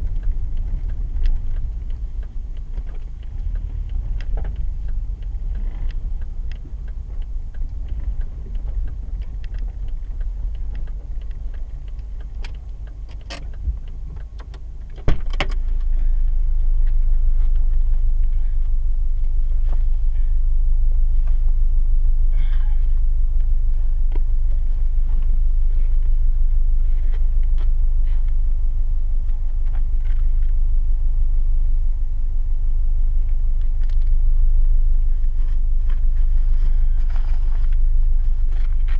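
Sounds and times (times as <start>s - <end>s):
car interior rumble: 0.0s - 38.9s.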